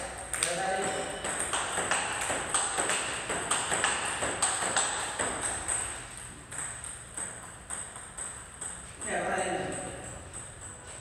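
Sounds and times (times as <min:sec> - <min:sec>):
table tennis ball ticking: 0:00.1 - 0:11.0.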